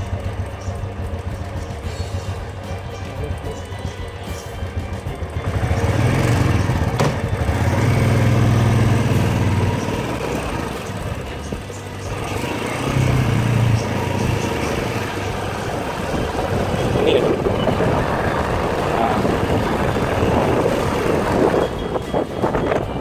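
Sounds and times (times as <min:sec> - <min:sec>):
motorcycle engine pulsing: 0:00.0 - 0:23.0.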